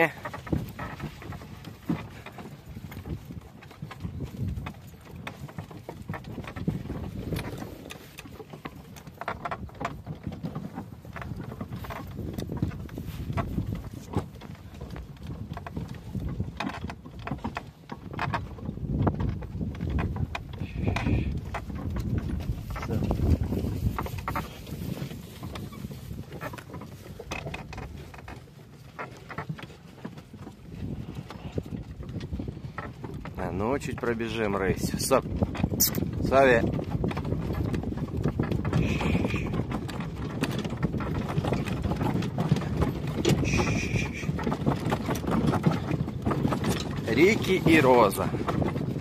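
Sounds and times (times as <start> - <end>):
wind on microphone: 0.0 - 28.4, 29.0 - 49.0
horse hooves clopping: 0.0 - 49.0.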